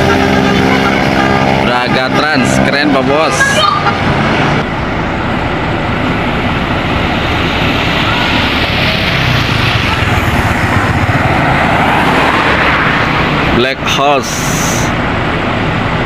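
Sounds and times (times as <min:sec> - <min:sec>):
bus driving past: 0:00.0 - 0:16.0.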